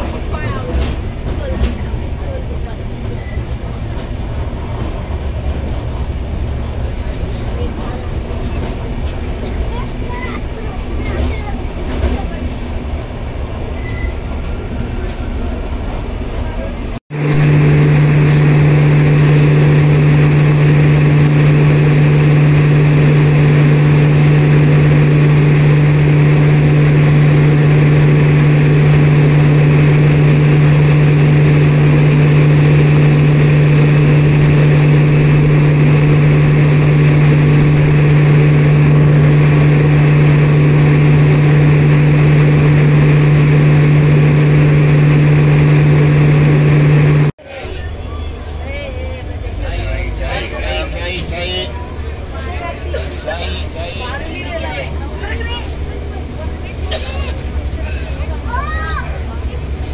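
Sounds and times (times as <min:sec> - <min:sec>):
train engine humming: 0:00.0 - 0:59.9.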